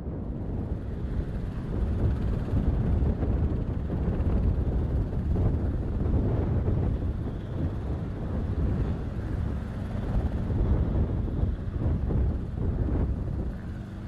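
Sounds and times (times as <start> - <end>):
helicopter rumble: 0.0 - 14.0.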